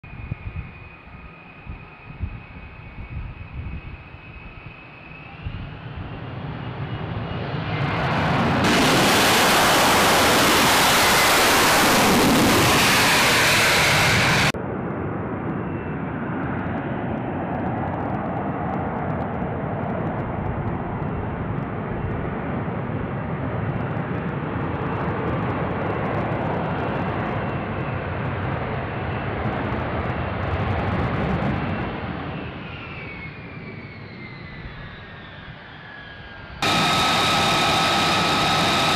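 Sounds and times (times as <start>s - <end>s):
jet engine landing: 0.1s - 38.9s
fighter jet roar: 0.2s - 21.9s, 26.3s - 38.9s.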